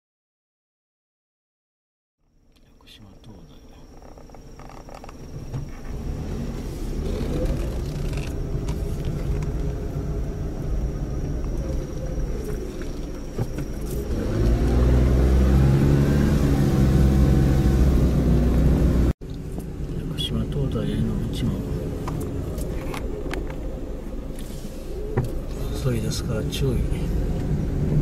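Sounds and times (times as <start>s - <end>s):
car engine from inside cabin: 2.3s - 28.0s.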